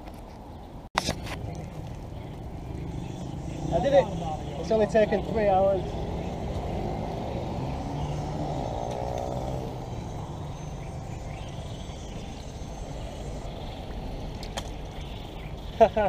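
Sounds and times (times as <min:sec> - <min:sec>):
road traffic rumble: 0:00.0 - 0:16.0
vehicle engine passing: 0:01.2 - 0:16.0.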